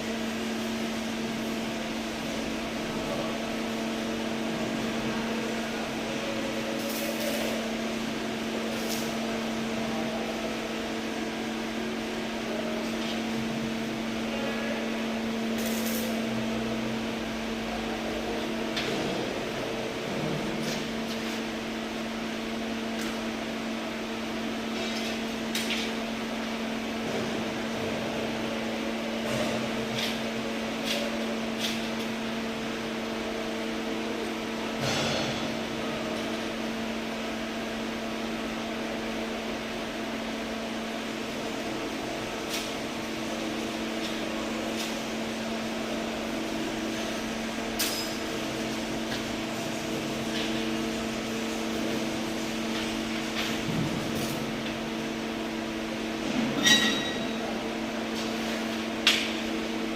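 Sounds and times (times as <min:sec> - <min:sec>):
arc welding hum and crackle: 0:00.0 - 0:59.9.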